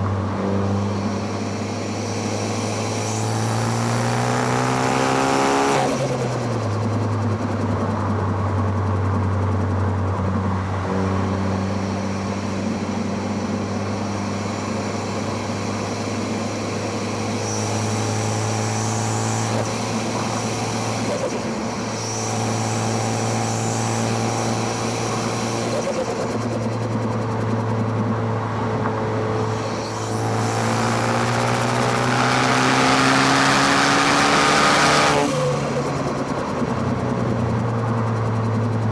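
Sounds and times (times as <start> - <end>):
car engine running and revving: 0.0 - 38.9.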